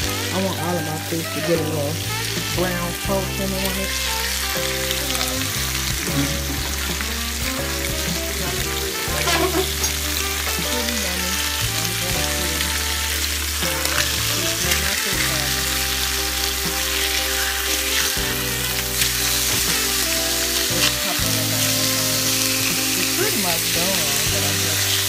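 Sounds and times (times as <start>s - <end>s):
fish sizzling in oil: 0.0s - 25.0s.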